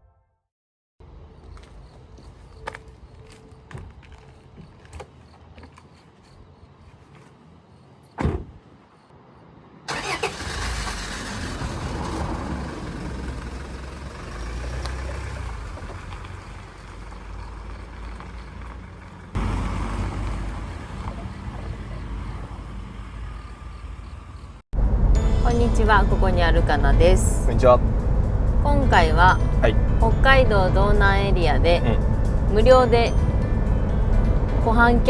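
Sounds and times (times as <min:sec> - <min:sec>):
vehicle engine and road rumble: 0:01.0 - 0:35.0.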